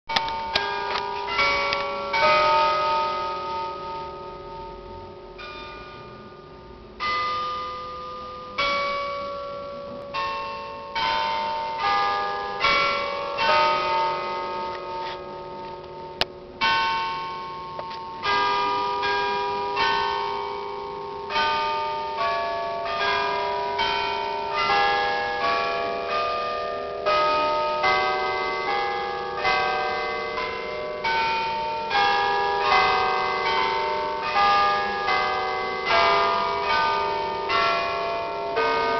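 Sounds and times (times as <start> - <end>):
church bells ringing a tune: 0.1 - 38.9.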